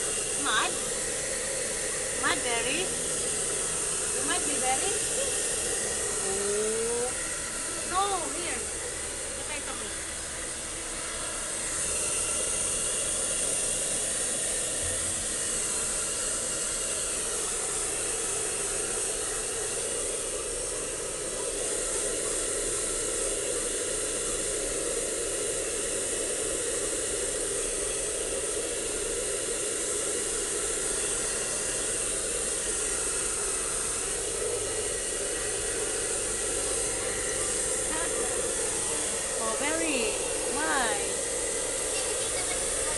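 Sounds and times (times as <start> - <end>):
hair dryer blowing: 0.0 - 42.9.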